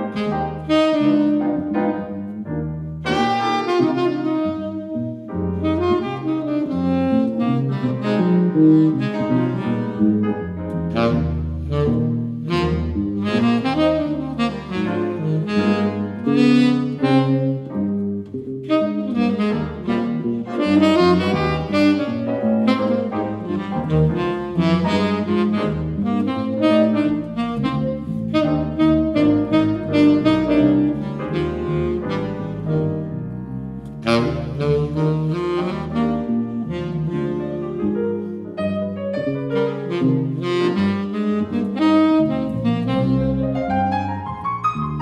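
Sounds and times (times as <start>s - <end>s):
electric bass: 0.0s - 45.0s
piano: 0.0s - 45.0s
tenor saxophone jazz melody: 0.0s - 45.0s.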